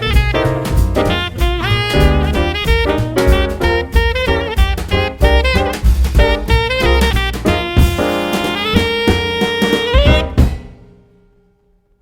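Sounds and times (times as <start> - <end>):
jazz music with saxophone: 0.0 - 10.8.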